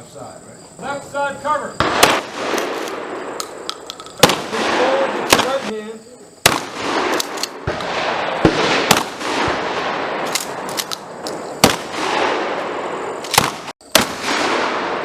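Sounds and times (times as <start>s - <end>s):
shotgun blasts with echo: 1.8s - 5.7s, 6.4s - 15.0s.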